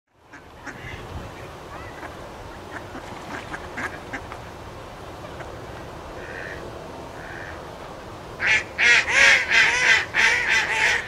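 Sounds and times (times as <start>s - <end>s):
steady background noise: 0.1s - 11.0s
ducks quacking: 0.3s - 4.5s, 5.2s - 7.6s, 8.4s - 11.0s.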